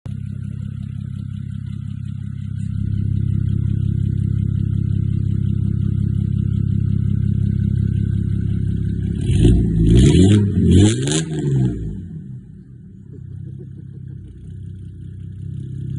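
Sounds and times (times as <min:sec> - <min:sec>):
diesel engine idling: 0:00.1 - 0:09.8, 0:11.9 - 0:15.9.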